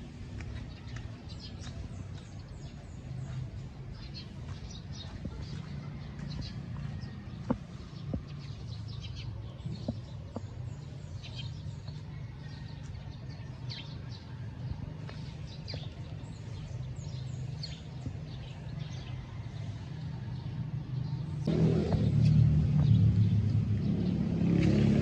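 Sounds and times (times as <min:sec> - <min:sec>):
birds chirping: 0:00.0 - 0:24.8.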